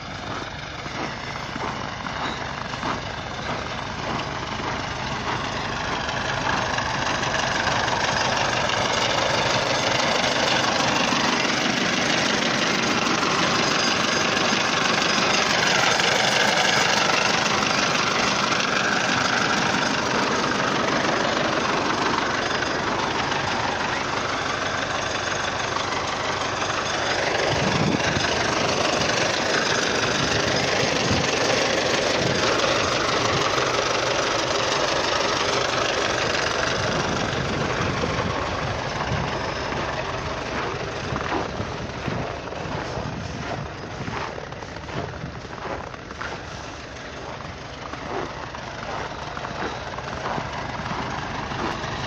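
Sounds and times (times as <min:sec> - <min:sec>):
tractor diesel engine clatter: 0:00.0 - 0:52.0.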